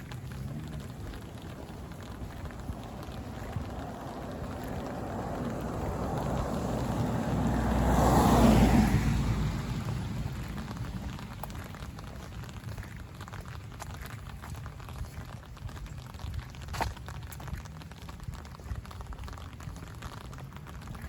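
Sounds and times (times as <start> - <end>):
car passing on wet road: 0.0 - 21.0
rain pattering: 0.0 - 21.0.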